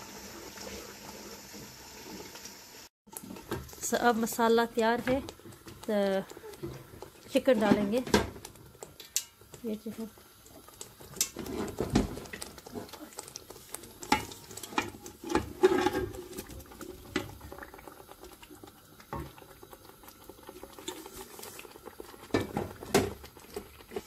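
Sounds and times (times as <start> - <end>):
thick gravy bubbling in a pot: 0.0 - 24.0.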